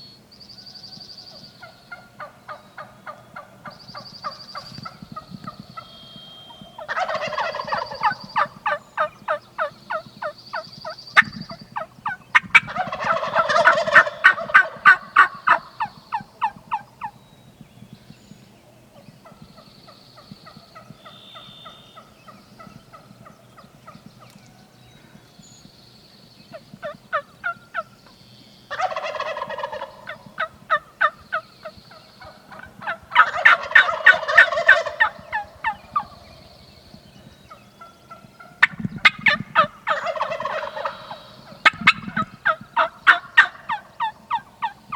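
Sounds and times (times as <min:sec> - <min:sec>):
turkeys gobbling: 0:01.6 - 0:17.2, 0:19.0 - 0:19.6, 0:20.2 - 0:24.4, 0:26.5 - 0:27.9, 0:28.7 - 0:36.4, 0:37.5 - 0:44.9.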